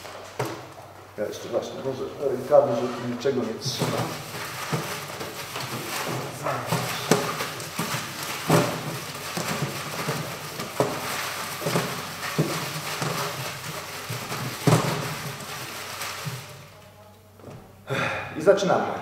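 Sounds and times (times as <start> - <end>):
paper slips rustling: 1.2 - 17.0.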